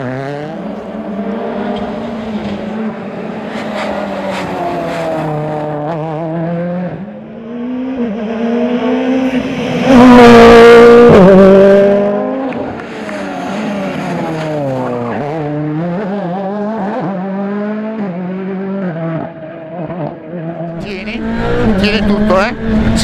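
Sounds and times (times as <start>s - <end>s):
rally car engine passing: 0.0s - 23.0s.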